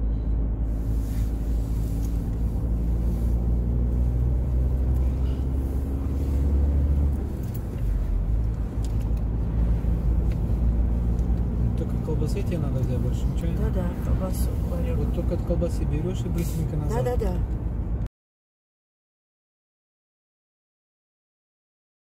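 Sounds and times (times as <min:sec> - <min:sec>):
car engine drone: 0:00.0 - 0:18.1
road noise inside car: 0:00.0 - 0:18.1.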